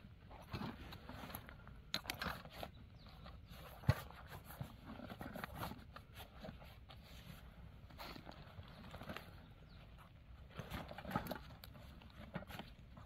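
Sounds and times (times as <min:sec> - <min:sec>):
small clicks and bumps of items: 0:00.2 - 0:07.1, 0:07.8 - 0:13.0.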